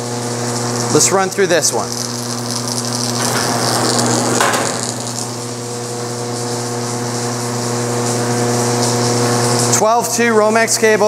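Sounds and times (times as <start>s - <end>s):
wire stripping machine humming: 0.0s - 10.6s
insulation scraping: 0.4s - 9.8s.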